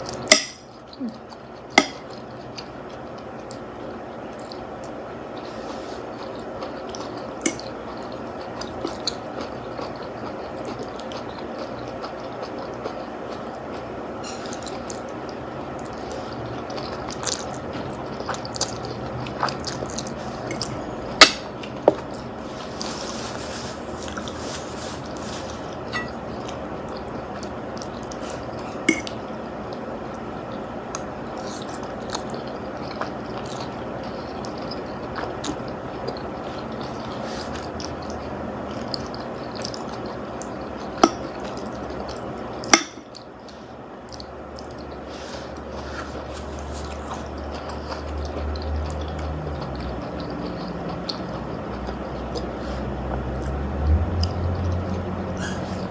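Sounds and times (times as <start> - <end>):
wet chewing and slurping: 0.0 - 42.4, 43.1 - 55.9.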